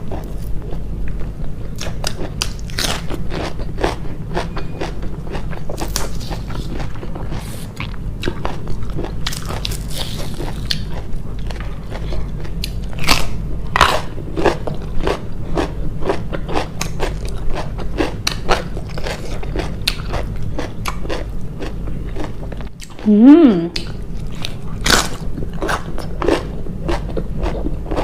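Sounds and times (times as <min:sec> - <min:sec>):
person chewing crunchy food: 0:00.0 - 0:28.0
steady low hum: 0:00.0 - 0:28.0.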